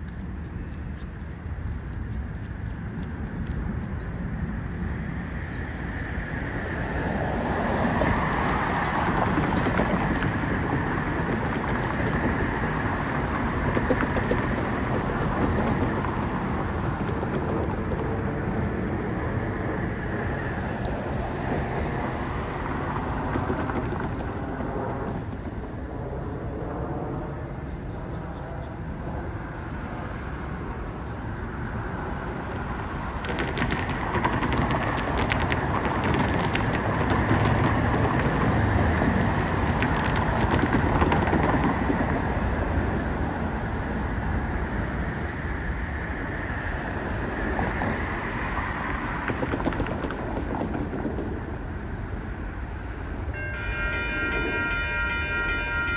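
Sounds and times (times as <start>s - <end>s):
crackly noise: 0.0s - 27.3s, 32.2s - 43.6s, 45.9s - 52.2s
cars passing on road: 0.0s - 55.9s.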